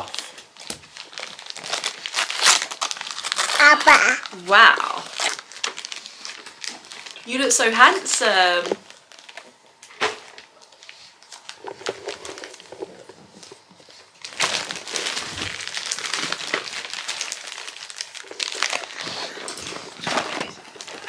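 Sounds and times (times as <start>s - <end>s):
wrapping paper crinkling: 0.0s - 21.0s.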